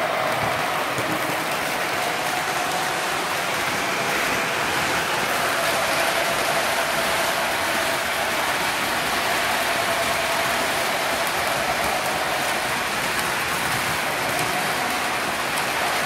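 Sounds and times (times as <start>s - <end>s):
model trains rolling on metal track: 0.0s - 16.0s.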